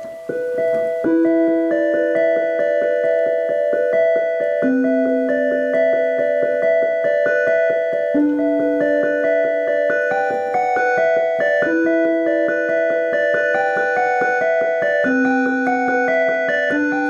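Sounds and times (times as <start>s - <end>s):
piano keyboard playing repeated notes: 0.0s - 17.0s.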